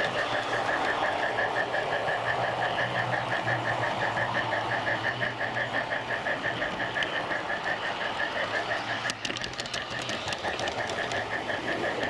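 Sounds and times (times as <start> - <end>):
model train mechanical beat: 0.0 - 12.0.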